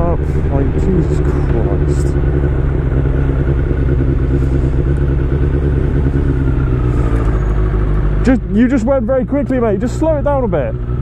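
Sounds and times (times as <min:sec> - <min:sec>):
motorcycle engine running: 0:00.0 - 0:11.0
road and wind rumble: 0:00.0 - 0:11.0.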